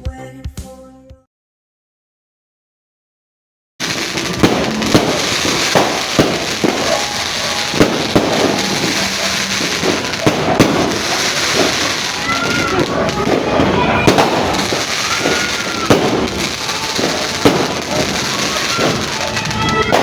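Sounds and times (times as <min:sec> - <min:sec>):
firecrackers crackling: 0:03.8 - 0:20.0
firework bangs: 0:03.8 - 0:20.0.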